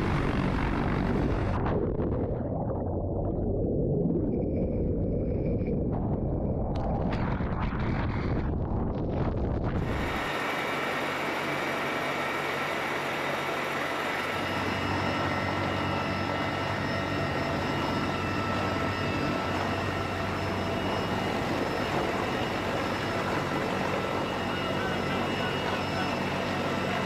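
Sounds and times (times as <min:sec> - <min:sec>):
helicopter turbines and rotors roaring: 0:00.0 - 0:02.2, 0:04.4 - 0:27.0
low hum: 0:00.0 - 0:27.0.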